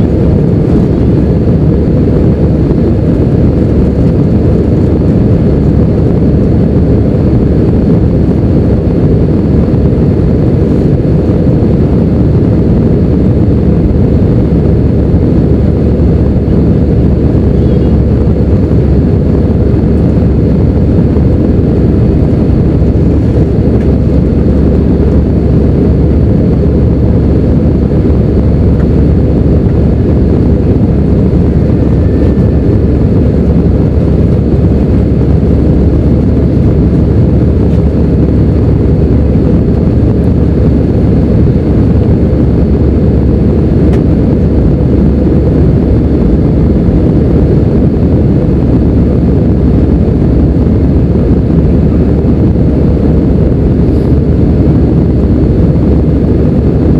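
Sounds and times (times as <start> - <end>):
jet engine rumble: 0.0 - 56.9
rushing air in cabin: 0.0 - 56.9.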